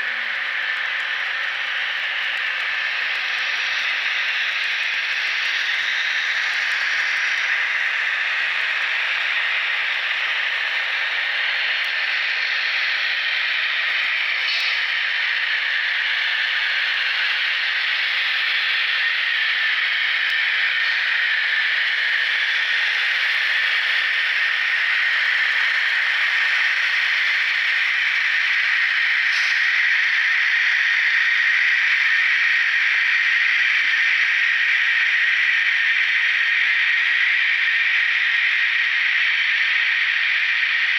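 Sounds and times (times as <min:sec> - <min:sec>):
model train engine sound: 0:00.0 - 0:40.9.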